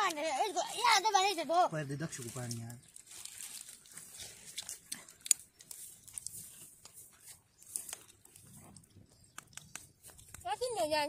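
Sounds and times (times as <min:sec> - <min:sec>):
twig fire crackling: 0:00.0 - 0:11.0.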